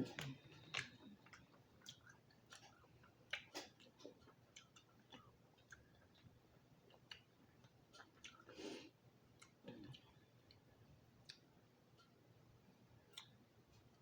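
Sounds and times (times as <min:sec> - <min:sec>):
person chewing: 0:00.0 - 0:12.2.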